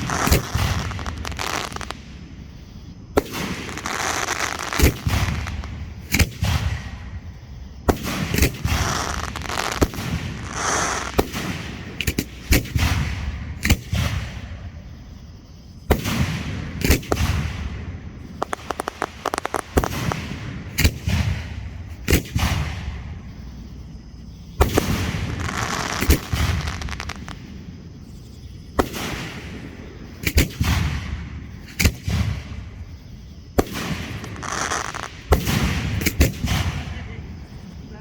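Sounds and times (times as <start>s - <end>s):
fireworks crackling: 0.0s - 2.5s, 3.1s - 14.8s, 15.9s - 27.8s, 28.7s - 38.0s
fireworks bangs: 0.0s - 15.2s, 15.8s - 38.0s
fireworks rumbling: 0.0s - 38.0s.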